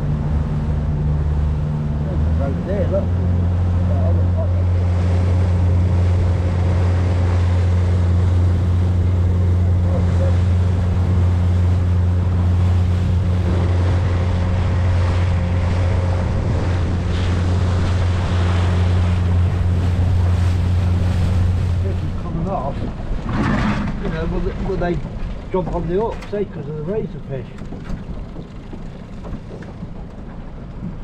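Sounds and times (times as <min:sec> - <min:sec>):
outboard motor running: 0:00.0 - 0:31.0
rush of boat wake: 0:00.0 - 0:31.0
wind buffeting microphone: 0:00.0 - 0:31.0.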